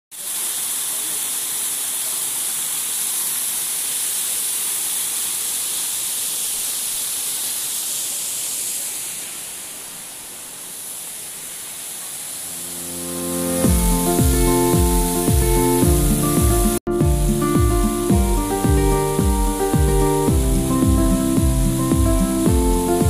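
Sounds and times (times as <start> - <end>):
waterfall rushing into pool: 0.1 - 23.0.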